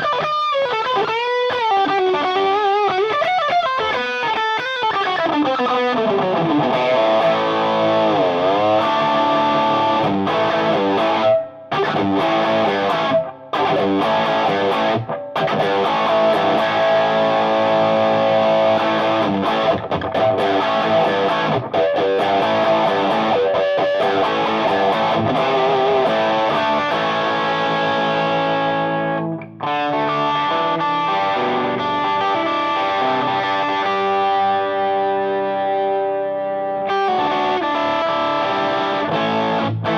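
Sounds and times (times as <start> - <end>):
overdriven electric guitar riffs: 0.0 - 39.9.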